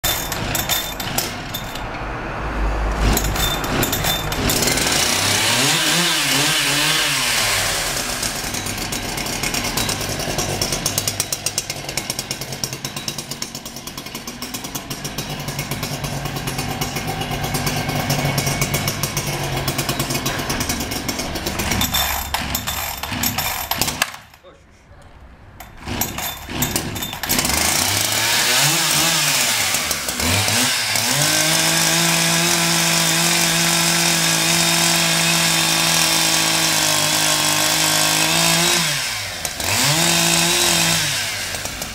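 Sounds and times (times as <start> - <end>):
chainsaw engine revving: 0.0 - 2.0, 2.6 - 24.4, 25.6 - 41.9.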